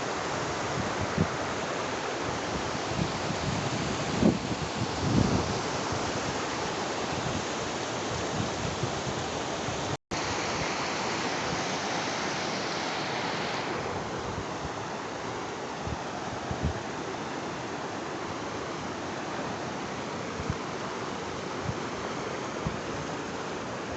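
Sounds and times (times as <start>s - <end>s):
flowing river water: 0.0s - 23.9s.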